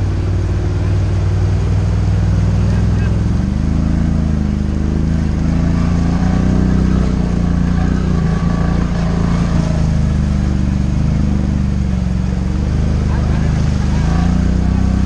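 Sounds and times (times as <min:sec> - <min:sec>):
atv engine running: 0:00.0 - 0:15.0
water splashing and rushing: 0:00.0 - 0:15.0.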